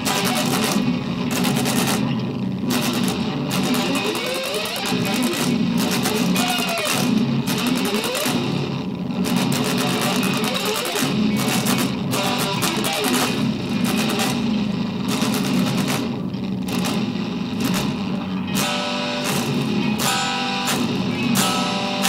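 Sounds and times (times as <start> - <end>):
electric guitar fast riffs: 0.0 - 22.0.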